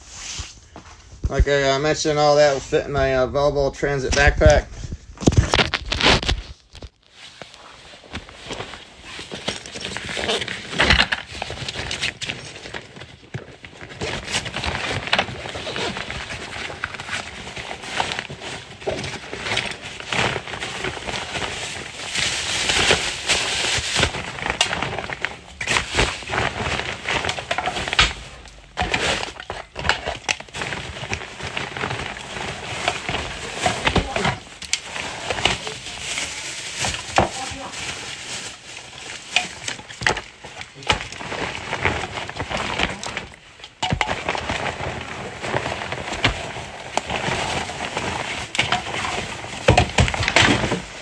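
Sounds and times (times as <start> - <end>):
fabric and plastic bag rustling: 0.0 - 51.0.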